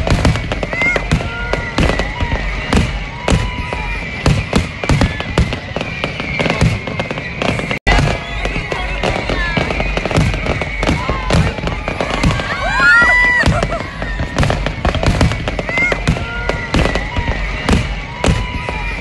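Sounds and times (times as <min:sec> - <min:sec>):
firework bangs: 0:00.0 - 0:19.0
firework crackling: 0:00.0 - 0:19.0.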